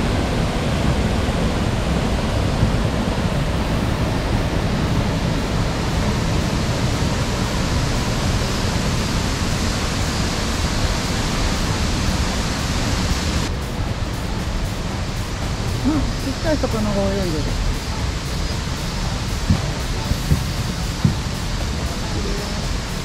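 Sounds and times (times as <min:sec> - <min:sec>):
water rushing: 0:00.0 - 0:23.0.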